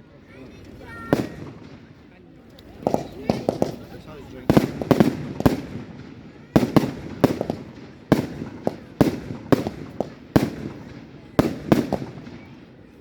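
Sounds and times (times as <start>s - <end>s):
fireworks bangs echoing: 0.9s - 2.1s, 2.7s - 13.0s.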